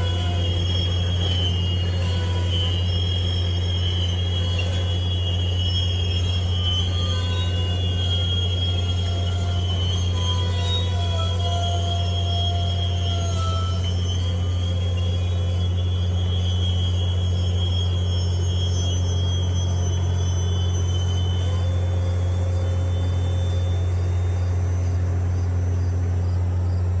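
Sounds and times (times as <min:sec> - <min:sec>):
diesel locomotive rumbling: 0:00.0 - 0:27.0
train wheels squealing: 0:00.0 - 0:27.0.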